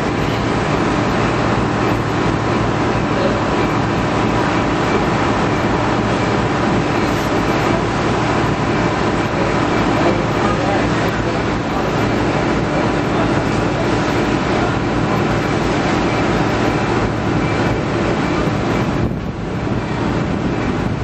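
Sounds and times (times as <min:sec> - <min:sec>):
broad rushing noise: 0:00.0 - 0:21.0
ferry engine drone: 0:00.0 - 0:21.0.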